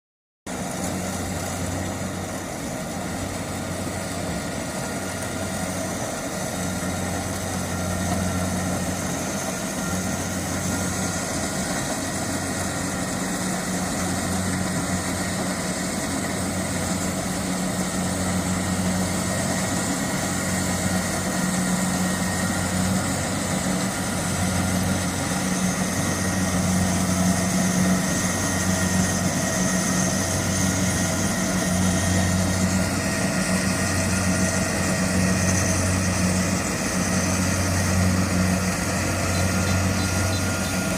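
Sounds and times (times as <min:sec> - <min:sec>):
combine harvester engine humming: 0:00.5 - 0:40.9.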